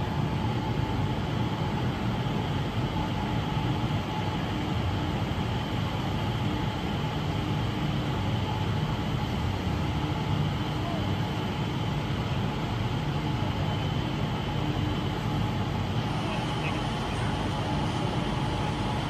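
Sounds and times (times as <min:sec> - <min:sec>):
faint steady whine: 0:00.0 - 0:19.0.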